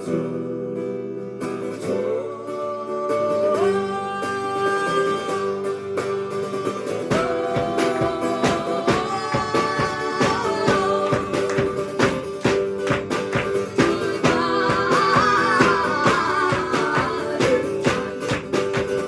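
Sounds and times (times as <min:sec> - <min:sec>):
acoustic guitars strumming: 0:00.0 - 0:19.0.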